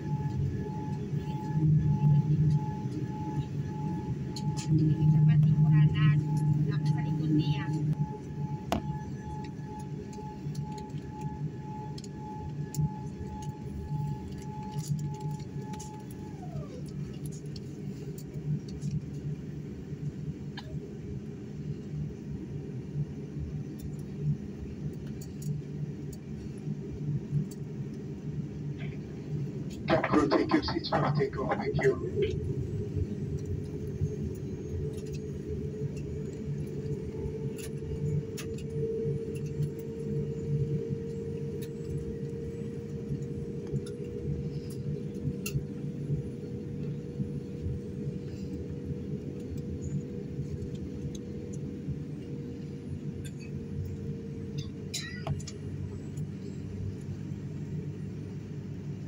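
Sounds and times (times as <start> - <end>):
airliner cabin rumble and hum: 0.0 - 59.0.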